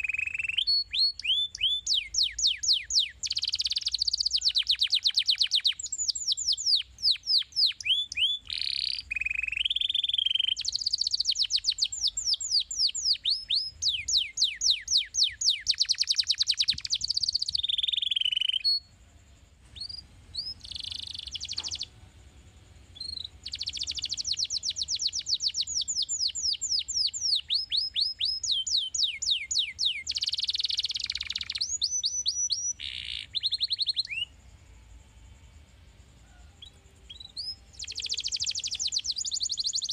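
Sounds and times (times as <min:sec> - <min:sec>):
canary singing: 0:00.0 - 0:34.8, 0:36.2 - 0:39.9.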